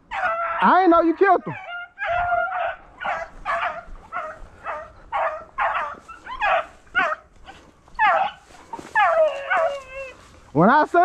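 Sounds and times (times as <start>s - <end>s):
dog yelping barks: 0.0s - 10.2s.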